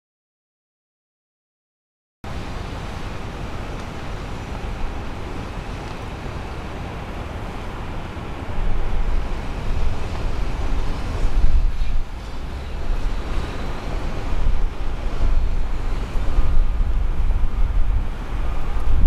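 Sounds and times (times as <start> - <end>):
street ambience hiss: 2.3 - 19.0
wind buffeting microphone: 2.3 - 19.0.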